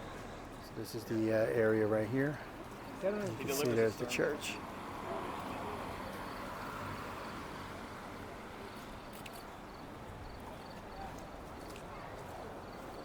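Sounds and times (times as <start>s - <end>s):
outdoor background rush: 0.0s - 13.0s.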